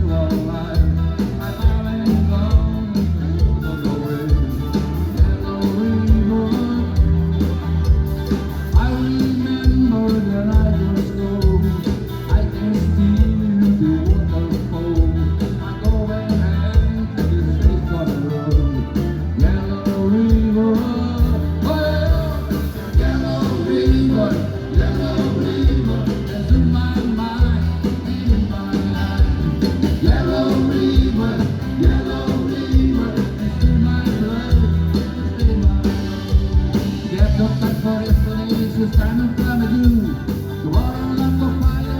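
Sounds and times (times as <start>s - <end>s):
live band playing rock and roll: 0.0s - 41.9s.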